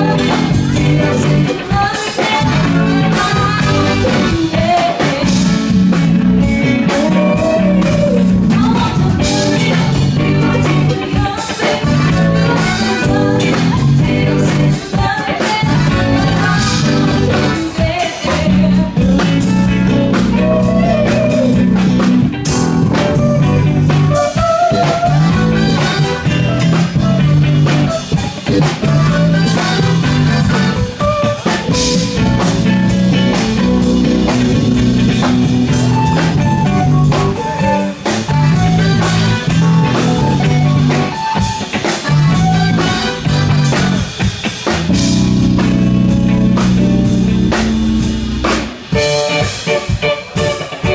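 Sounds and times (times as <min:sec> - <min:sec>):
drum rimshots: 0:00.0 - 0:50.9
live band playing: 0:00.0 - 0:50.9.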